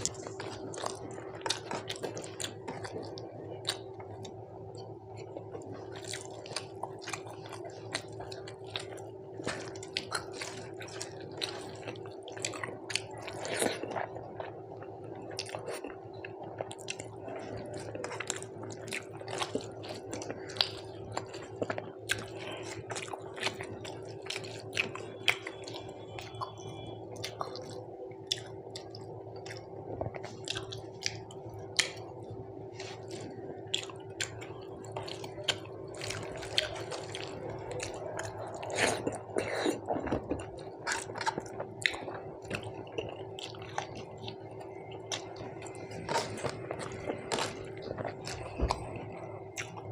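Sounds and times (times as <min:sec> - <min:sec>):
close-up chewing: 0:00.0 - 0:49.9
steady low hum: 0:00.0 - 0:49.9.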